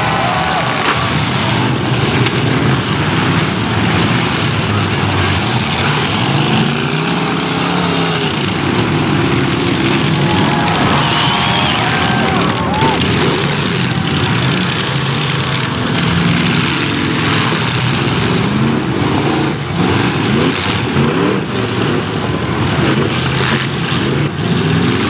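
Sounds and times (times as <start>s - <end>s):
racing car engine revving: 0.0s - 25.0s.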